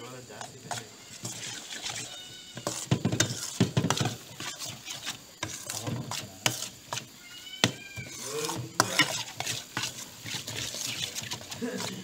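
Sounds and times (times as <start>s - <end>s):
metal spoon scraping rice in pan: 0.1s - 12.0s.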